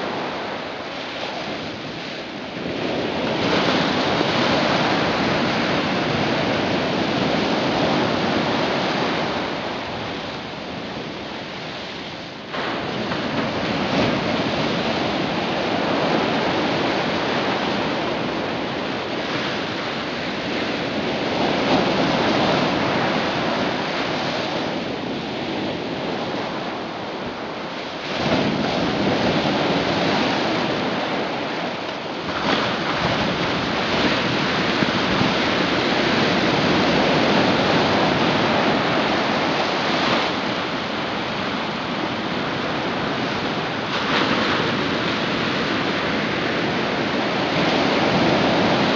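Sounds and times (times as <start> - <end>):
ocean waves washing in: 0.0 - 48.9.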